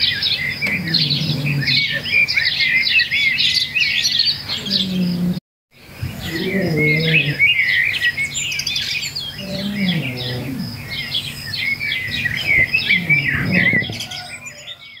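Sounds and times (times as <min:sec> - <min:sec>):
birds chirping and warbling: 0:00.0 - 0:15.0.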